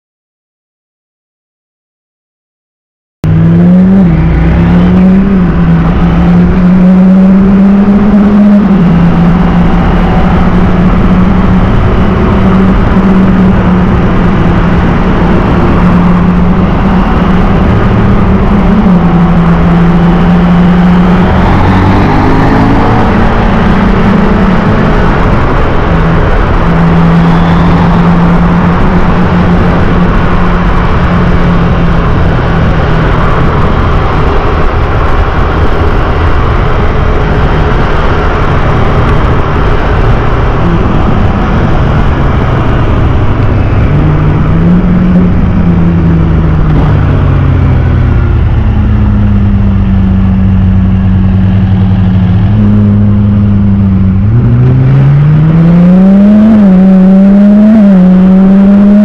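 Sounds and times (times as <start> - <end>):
motorcycle engine running: 3.2 - 59.0
road and wind noise: 3.2 - 59.0.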